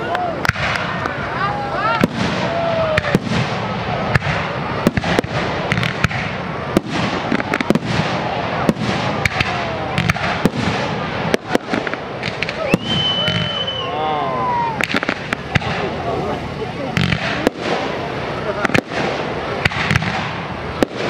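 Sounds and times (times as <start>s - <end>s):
continuous fireworks show noise: 0.0s - 21.0s
fireworks bangs: 0.0s - 21.0s.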